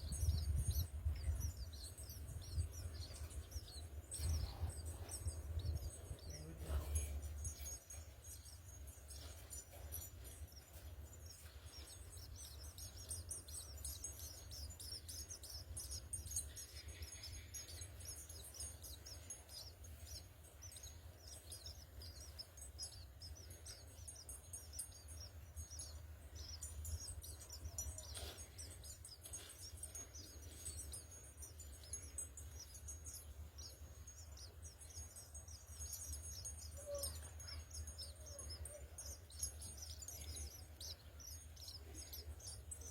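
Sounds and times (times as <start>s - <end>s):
sparrows chirping: 0.0s - 42.9s.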